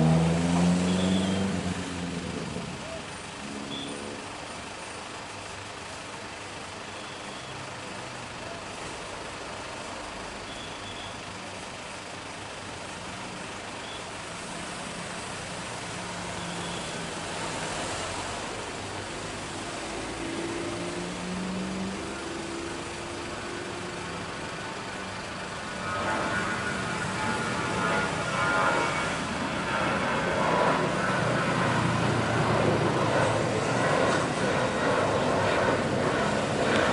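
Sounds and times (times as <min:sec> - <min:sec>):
jet engines at takeoff: 0:00.0 - 0:36.9.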